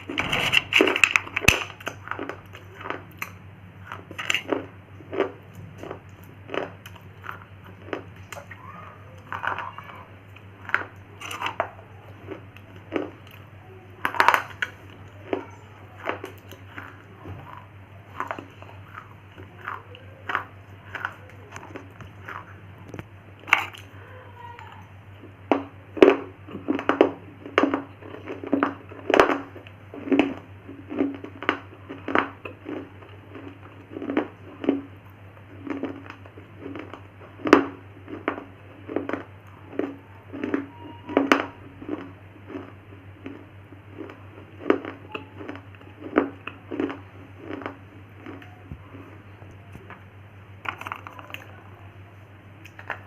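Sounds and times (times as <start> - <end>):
crunching and chewing clay: 0.0 - 53.0
steady low hum: 0.0 - 53.0.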